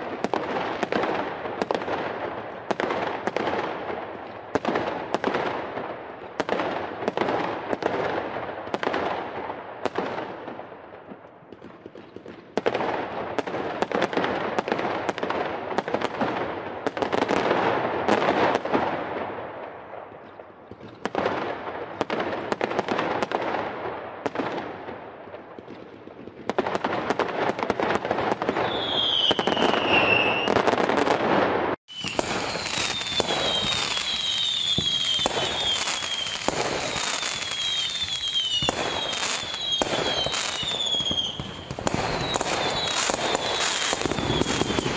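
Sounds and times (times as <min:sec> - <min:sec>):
fireworks bangs and crackles: 0:00.0 - 0:44.9
whistling fireworks: 0:00.0 - 0:44.9.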